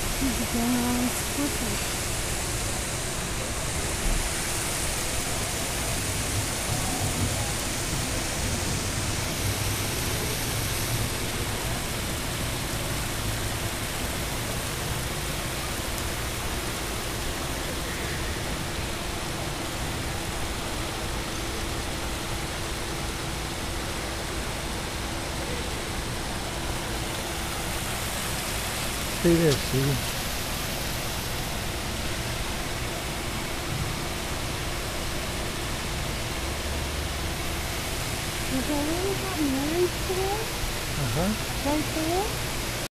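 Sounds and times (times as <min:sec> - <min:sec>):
faint steady hum: 0:00.0 - 0:42.9
water rushing: 0:00.0 - 0:42.9.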